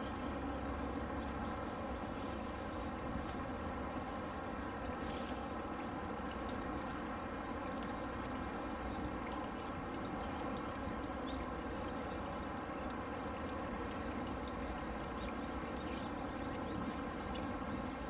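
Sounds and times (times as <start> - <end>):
outdoor background hum: 0.0 - 18.0.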